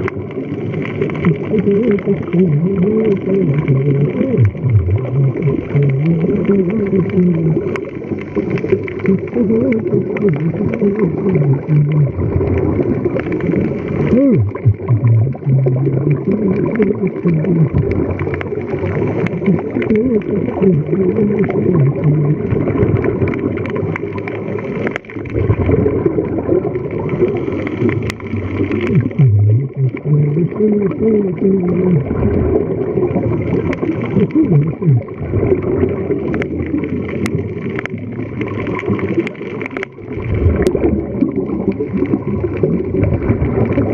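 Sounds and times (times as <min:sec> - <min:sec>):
low underwater rumble: 0:00.0 - 0:43.9
underwater bubbles gurgling: 0:00.0 - 0:43.9.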